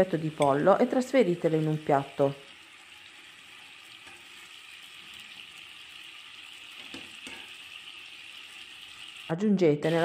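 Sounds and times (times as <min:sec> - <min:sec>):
oil sizzling in a frying pan: 0:00.0 - 0:10.0.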